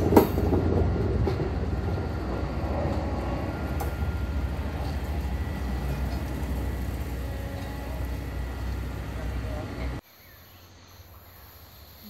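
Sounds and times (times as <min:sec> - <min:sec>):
track machine rumbling past: 0:00.0 - 0:10.0.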